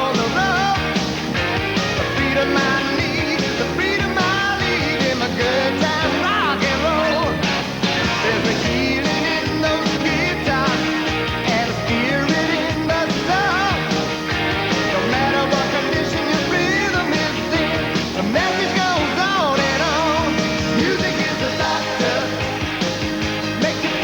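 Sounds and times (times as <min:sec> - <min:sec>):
rock music with singing: 0:00.0 - 0:24.0.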